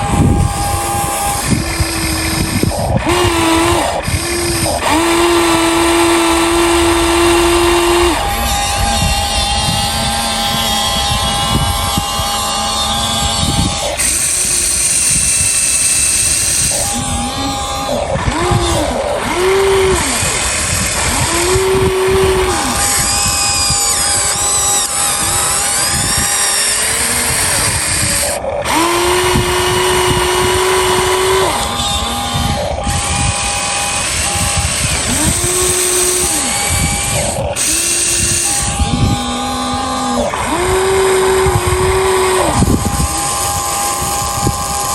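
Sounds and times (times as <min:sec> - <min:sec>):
electric motors and pump whining: 0:00.0 - 0:44.9
mechanical hum: 0:00.0 - 0:44.9.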